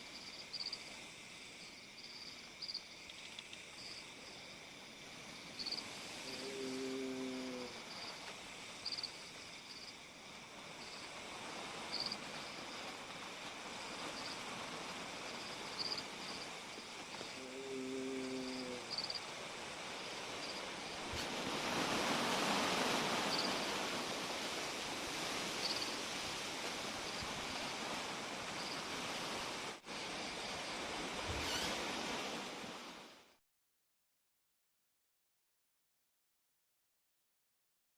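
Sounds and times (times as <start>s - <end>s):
insect chirps: 0.0s - 32.6s
steady hiss: 0.0s - 33.4s.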